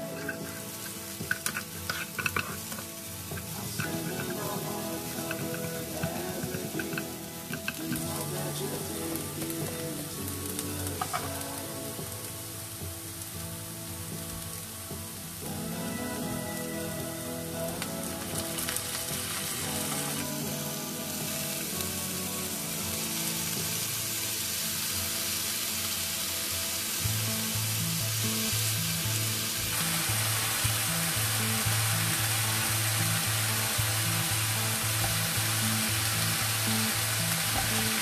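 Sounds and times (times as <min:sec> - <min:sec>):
background music with beat: 0:00.0 - 0:38.0
onions sizzling in oil: 0:00.0 - 0:38.0.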